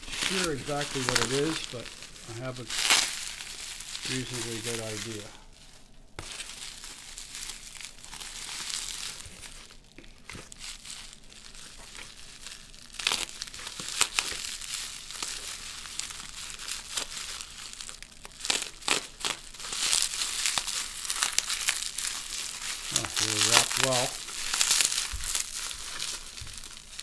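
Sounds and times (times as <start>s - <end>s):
bubble wrap crackles and snaps: 0.0s - 27.0s
bubble wrap crinkling: 0.0s - 27.0s.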